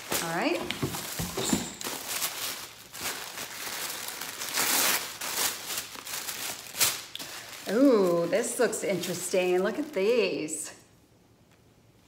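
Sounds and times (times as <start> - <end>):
tissue paper crinkling: 0.0 - 10.4.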